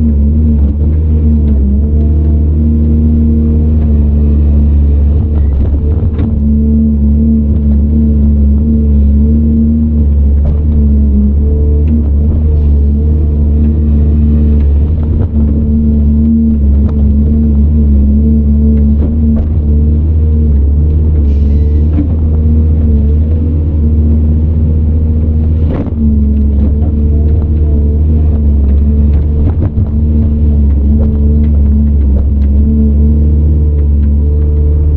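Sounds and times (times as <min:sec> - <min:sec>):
diesel engine running under load: 0:00.0 - 0:34.9.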